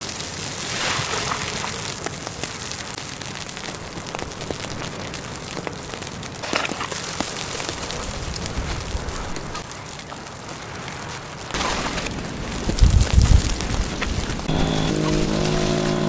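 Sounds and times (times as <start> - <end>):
rustle: 0.0 - 16.0
snow pattering on tent fabric: 0.0 - 16.0.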